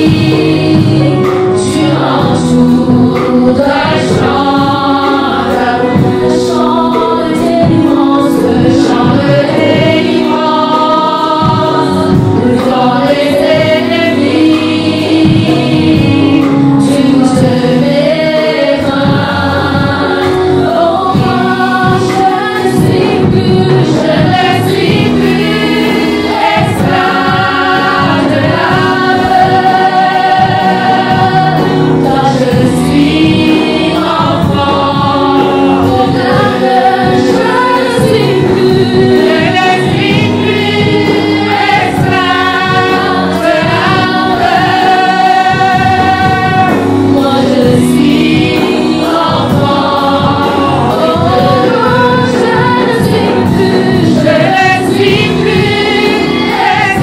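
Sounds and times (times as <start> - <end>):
keyboard accompaniment: 0.0 - 57.0
women singing gospel song: 0.0 - 57.0.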